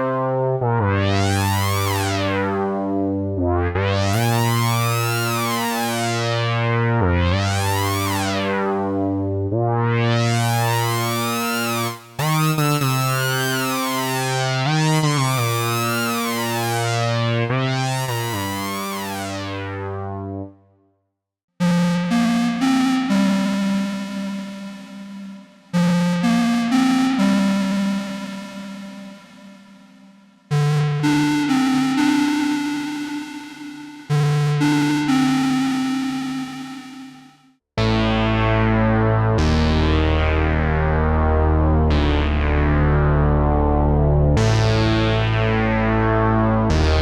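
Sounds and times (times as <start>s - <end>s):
synthesizer held chords with filter sweeps: 0.0s - 20.6s, 21.6s - 47.0s
buzzy synthesizer chords: 0.8s - 20.5s, 21.6s - 47.0s.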